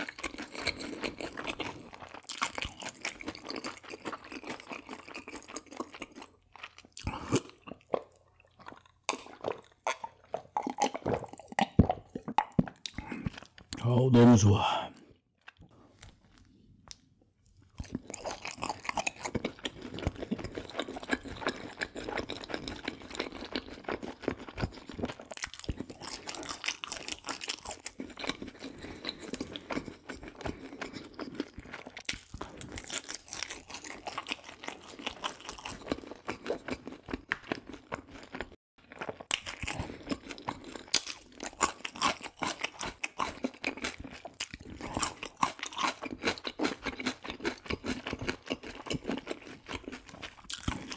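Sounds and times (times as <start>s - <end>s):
chewing crisp fried food: 0.0s - 14.0s, 14.9s - 50.9s.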